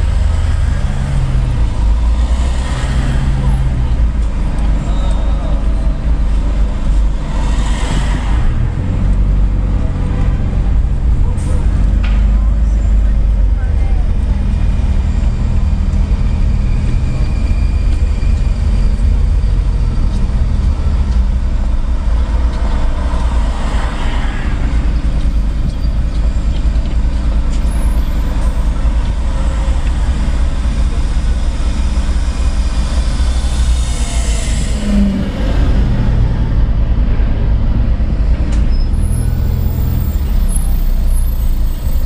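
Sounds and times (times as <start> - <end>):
traffic rumble and road noise: 0.0 - 42.0.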